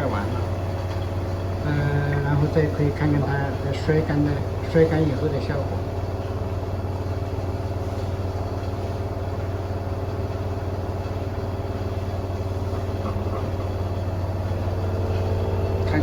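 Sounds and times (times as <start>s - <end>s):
washing machine drum spinning: 0.0s - 16.0s.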